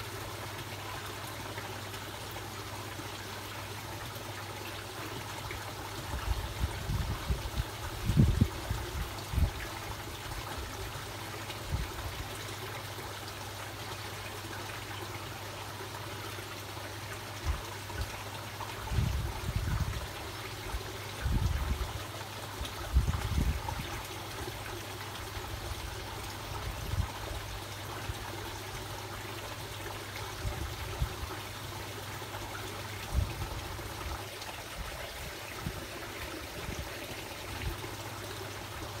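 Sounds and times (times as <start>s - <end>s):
water trickling and bubbling: 0.0s - 39.0s.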